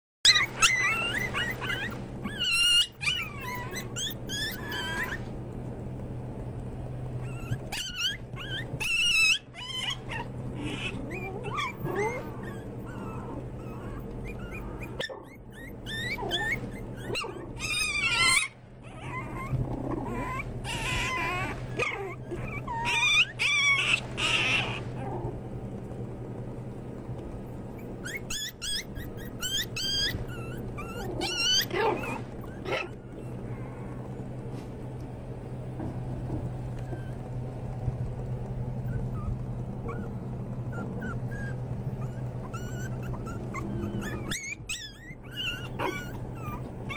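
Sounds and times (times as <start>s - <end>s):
puppies whining and squealing: 0.2s - 5.4s, 7.1s - 25.4s, 27.6s - 34.7s, 35.8s - 46.9s
steady low hum: 0.3s - 46.9s.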